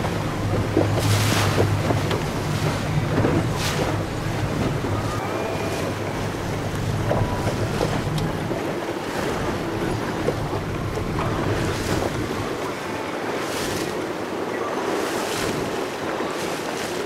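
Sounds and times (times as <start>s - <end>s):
boat engine humming: 0.0s - 17.0s
water washing against hull: 0.0s - 17.0s
wind buffeting microphone: 0.0s - 17.0s.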